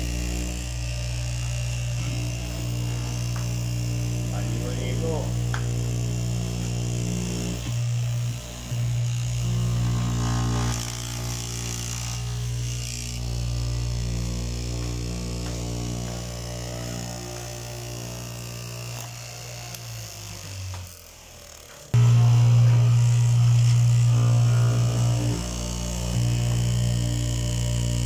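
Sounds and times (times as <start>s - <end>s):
cloth cutting machine humming: 0.0s - 28.0s.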